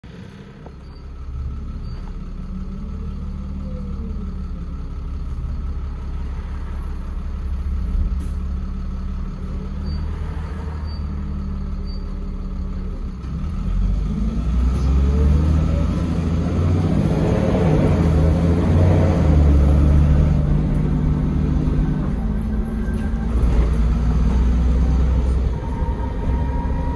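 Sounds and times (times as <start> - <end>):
bus engine rumbling: 0.0 - 26.9.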